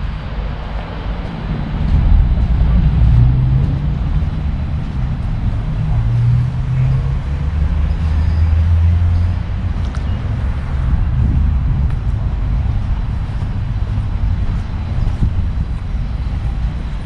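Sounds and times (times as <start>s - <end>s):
vehicle engine low rumble: 0.0s - 17.0s.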